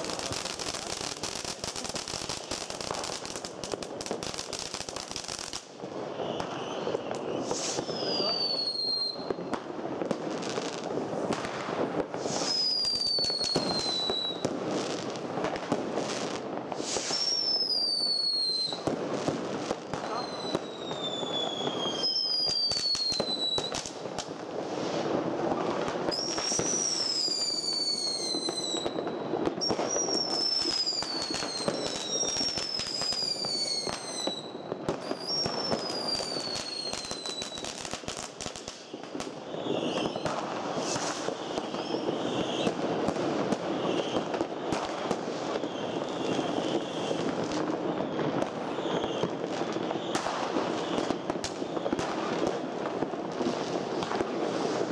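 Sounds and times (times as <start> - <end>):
firecrackers crackling and banging: 0.0 - 54.9
whistling fireworks: 0.0 - 54.9.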